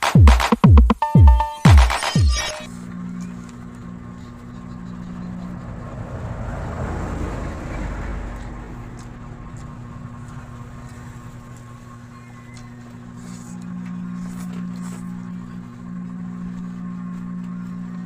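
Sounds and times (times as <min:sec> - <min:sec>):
low motor hum: 0:02.7 - 0:18.0.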